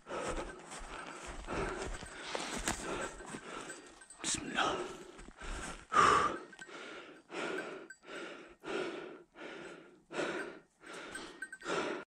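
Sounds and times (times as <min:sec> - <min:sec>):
man panting hard: 0:00.0 - 0:12.0.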